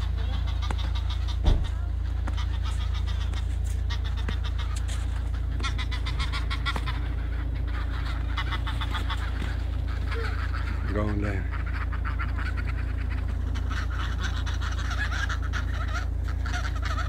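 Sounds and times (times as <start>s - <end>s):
geese honking: 0.0s - 17.0s
steady low rumble: 0.0s - 17.0s.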